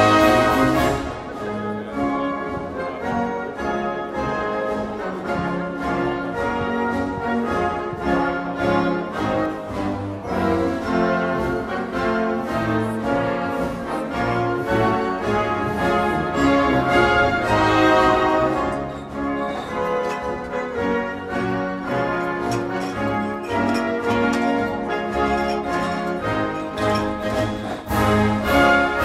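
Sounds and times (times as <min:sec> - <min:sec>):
orchestral music brass and strings: 0:00.0 - 0:29.0.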